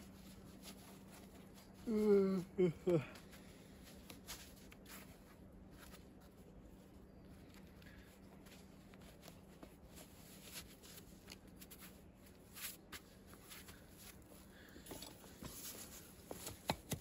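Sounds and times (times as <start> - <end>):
faint low hum: 0.0 - 17.0
rubber gloves rustling: 0.0 - 17.0.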